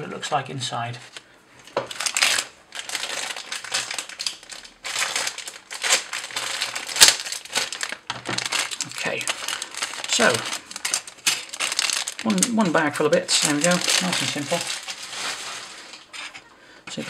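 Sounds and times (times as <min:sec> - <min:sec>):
plastic bag crinkling: 0:01.0 - 0:17.0.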